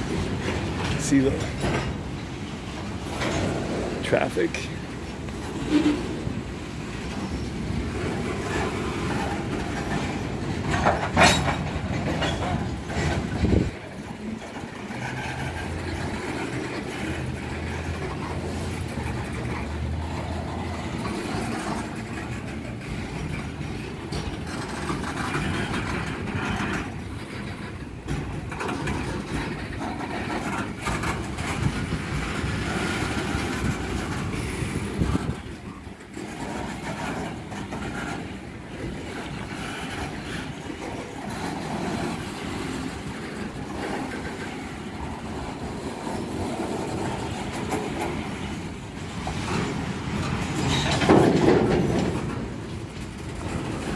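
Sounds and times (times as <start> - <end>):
freight car wheels clattering: 0.0 - 53.9.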